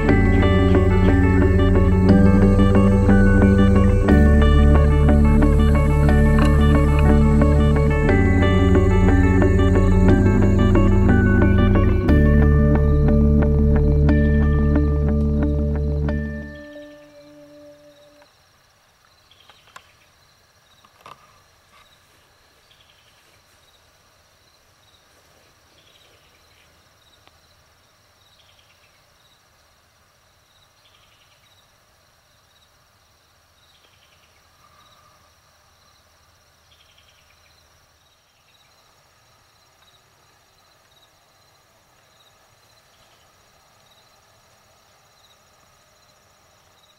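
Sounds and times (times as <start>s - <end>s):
falling raspy insect chirp: 0.0s - 46.9s
insects trilling: 0.0s - 46.9s.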